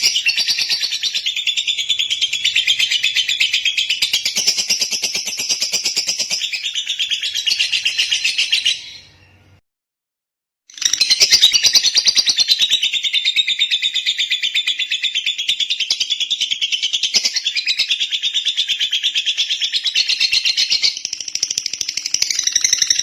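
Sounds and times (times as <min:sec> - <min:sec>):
lovebird chattering: 0:00.0 - 0:09.1, 0:10.7 - 0:23.0.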